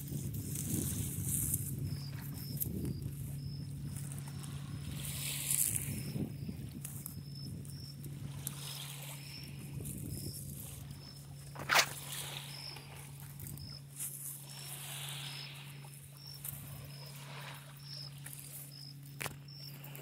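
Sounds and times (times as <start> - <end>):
steady low hum: 0.0 - 20.0
insects chirping: 0.1 - 20.0.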